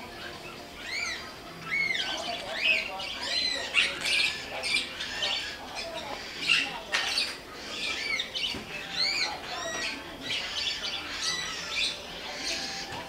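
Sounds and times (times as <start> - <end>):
caged birds chirping and squawking: 0.0 - 13.0.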